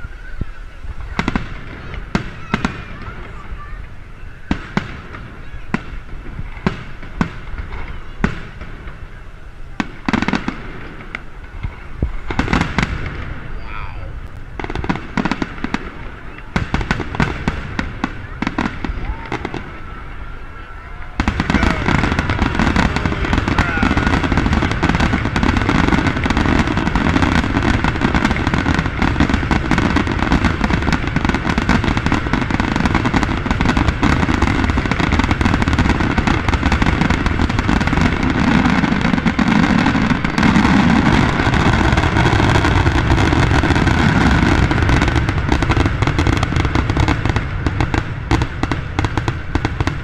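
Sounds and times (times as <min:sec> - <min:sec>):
fireworks bursting: 0:00.0 - 0:50.0.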